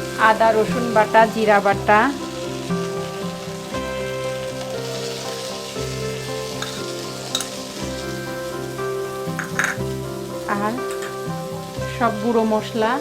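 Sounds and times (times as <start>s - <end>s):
background music with held chords: 0.0s - 13.0s
paste sizzling in hot oil: 0.0s - 13.0s.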